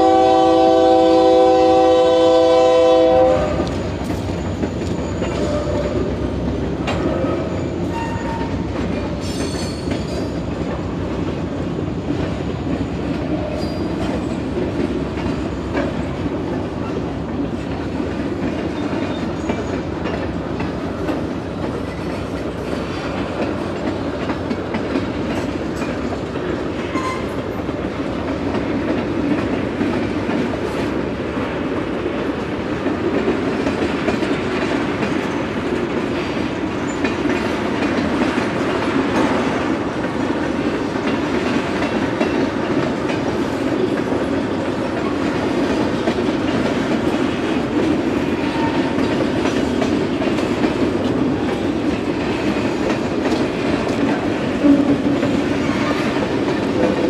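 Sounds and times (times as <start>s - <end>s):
freight train wheels rumbling on rail: 0.0s - 57.0s
wheels clacking over rail joints: 0.0s - 57.0s.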